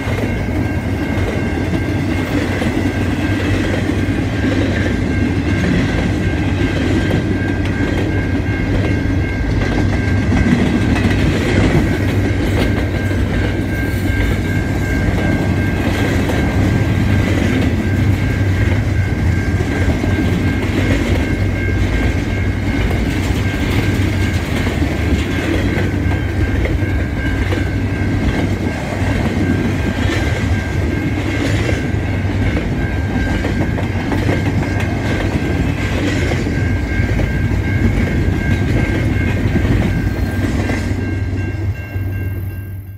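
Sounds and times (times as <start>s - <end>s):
crossing warning bell ringing: 0.0s - 42.9s
freight train wheels clacking on rails: 0.0s - 42.9s.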